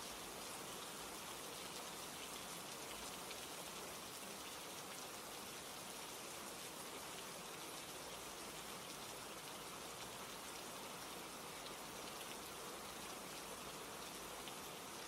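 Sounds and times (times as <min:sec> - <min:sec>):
hiss of falling rain: 0:00.0 - 0:15.0.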